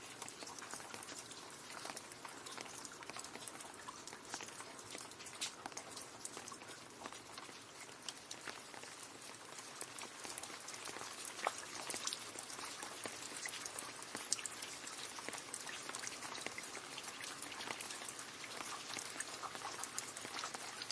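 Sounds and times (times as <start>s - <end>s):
drop splashes and plinks: 0.0s - 20.9s
rain falling into puddle: 0.0s - 20.9s.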